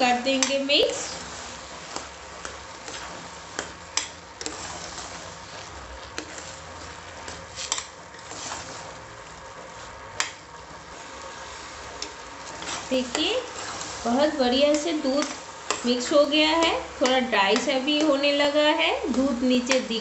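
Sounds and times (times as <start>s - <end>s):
spoon stirring in pan: 0.0s - 20.0s
steady sizzle: 0.0s - 20.0s.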